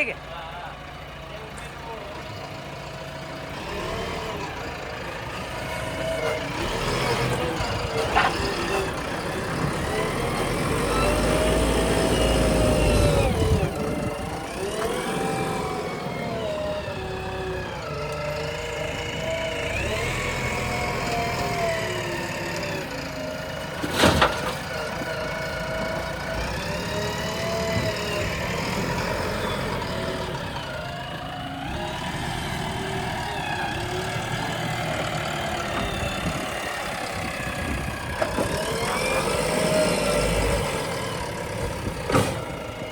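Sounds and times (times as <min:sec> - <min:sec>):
diesel engine revving under load: 0:00.0 - 0:42.9.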